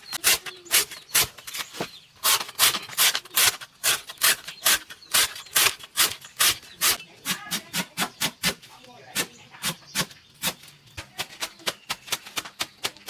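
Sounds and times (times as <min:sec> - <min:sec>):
blade chopping banana stem: 0:02.2 - 0:13.0.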